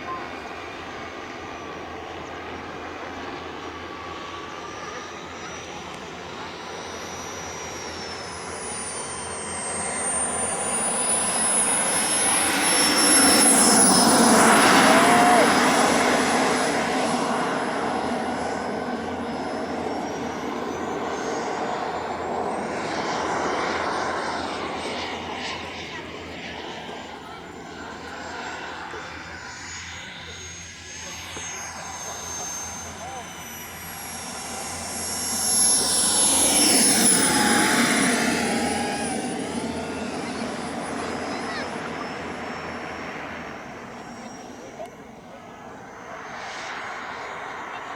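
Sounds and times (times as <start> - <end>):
model jet turbine whining: 0.0 - 47.9.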